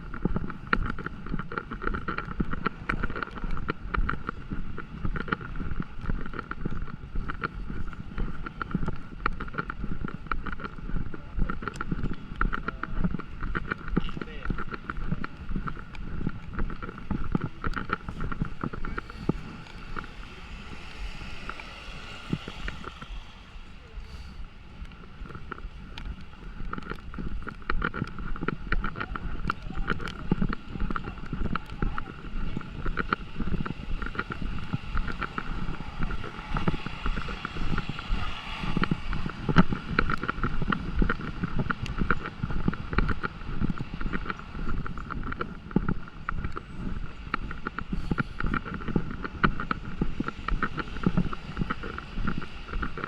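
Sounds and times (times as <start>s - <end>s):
raindrops pattering: 0.0s - 53.0s
wind buffeting microphone: 0.0s - 53.0s.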